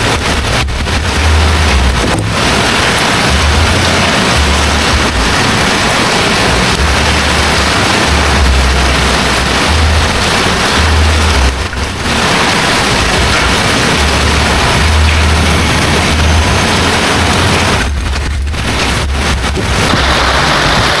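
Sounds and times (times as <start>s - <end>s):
heavy rain pouring: 0.0s - 21.0s
wind buffeting microphone: 0.0s - 21.0s.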